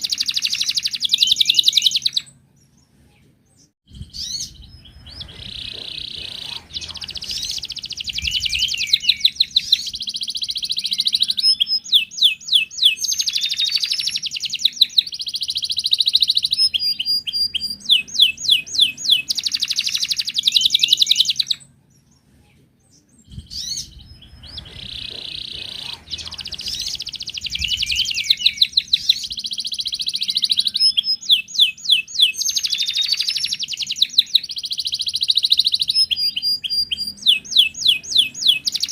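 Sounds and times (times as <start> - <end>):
canary singing trills: 0.0 - 2.9, 3.5 - 38.9.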